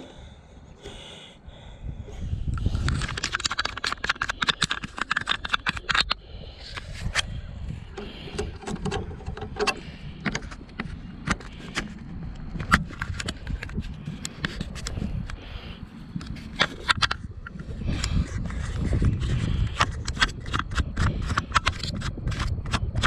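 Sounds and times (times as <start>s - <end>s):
clicks and rattles: 2.5s - 15.4s, 16.2s - 23.0s.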